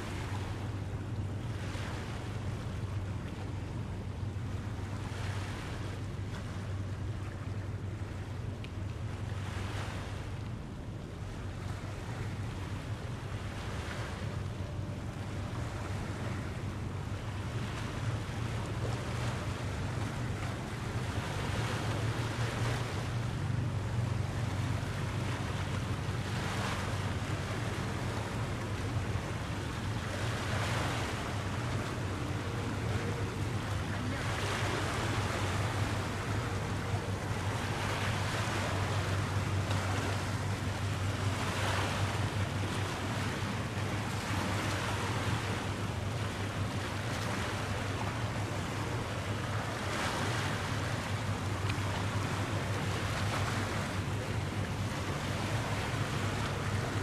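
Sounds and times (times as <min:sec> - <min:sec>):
water waves washing in: 0:00.0 - 0:57.0.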